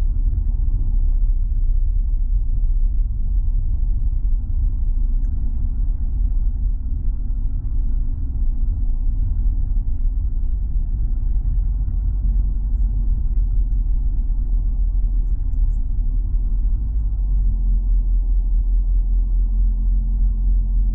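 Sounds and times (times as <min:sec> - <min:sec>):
vehicle engine and tyre rumble: 0:00.0 - 0:20.9.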